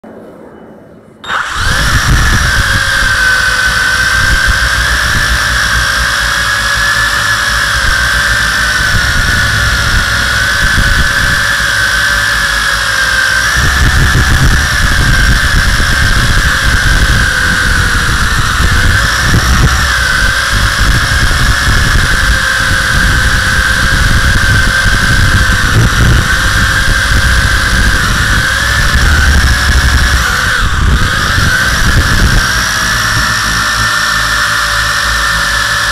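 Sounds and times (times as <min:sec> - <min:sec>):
drone propellers whining: 0:00.0 - 0:35.9
uneven low rumbling: 0:00.0 - 0:35.9.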